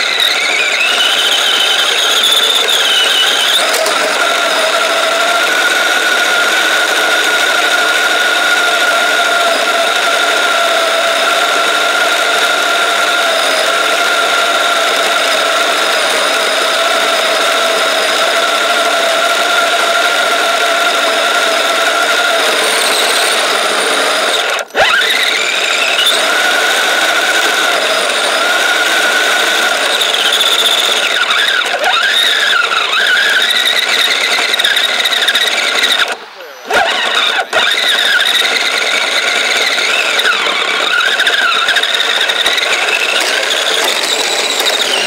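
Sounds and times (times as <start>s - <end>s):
toy vehicle motor whining: 0.0s - 45.0s.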